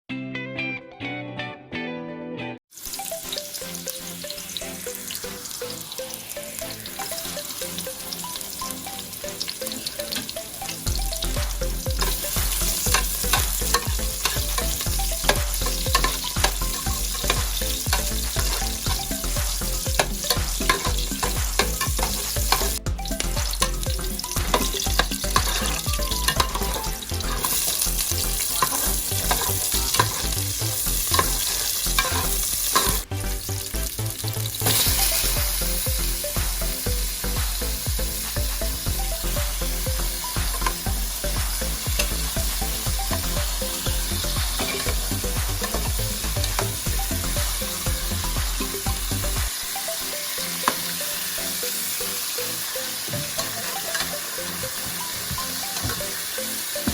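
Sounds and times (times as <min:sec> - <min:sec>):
food sizzling in a pan: 0:02.7 - 0:56.9.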